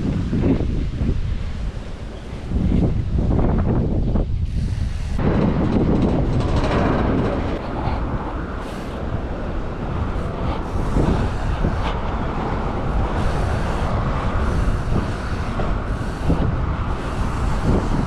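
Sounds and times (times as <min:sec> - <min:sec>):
road rumble from bicycle: 0:00.0 - 0:18.0
wind buffeting microphone: 0:00.0 - 0:18.0.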